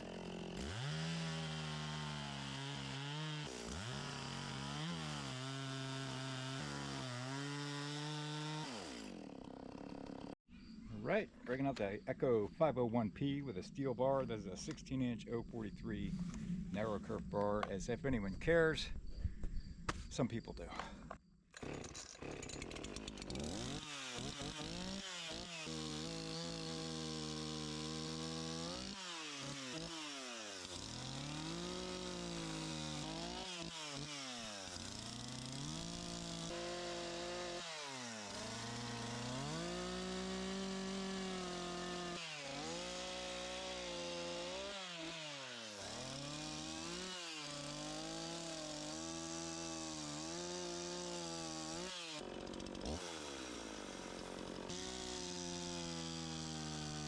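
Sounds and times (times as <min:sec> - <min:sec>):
chainsaw cutting into log: 0:00.0 - 0:10.4, 0:21.5 - 0:57.0
chainsaw revving: 0:00.0 - 0:10.4, 0:21.6 - 0:57.0.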